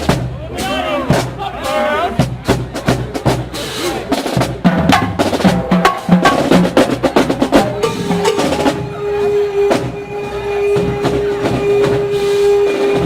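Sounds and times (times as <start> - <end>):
marching drumline playing: 0.0 - 13.0.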